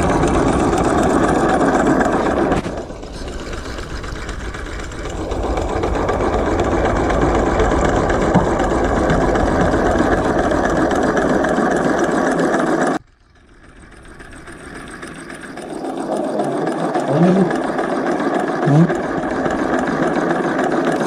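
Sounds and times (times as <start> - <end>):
solenoid engine clattering: 0.0 - 21.0.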